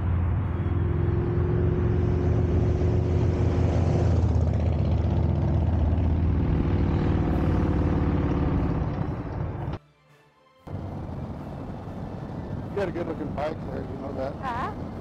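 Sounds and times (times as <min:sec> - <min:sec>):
motorcycle engines droning: 0:00.0 - 0:09.8, 0:10.7 - 0:15.0.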